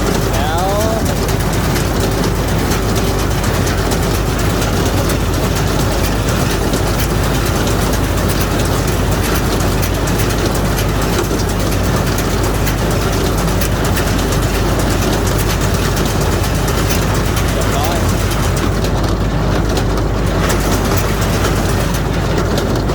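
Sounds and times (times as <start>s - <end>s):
baler engine drone: 0.0s - 22.9s
fast mechanical clatter: 0.0s - 22.9s.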